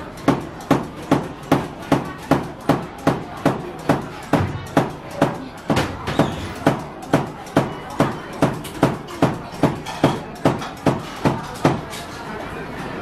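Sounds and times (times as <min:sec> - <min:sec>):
machine blade chopping dough: 0:00.0 - 0:12.0.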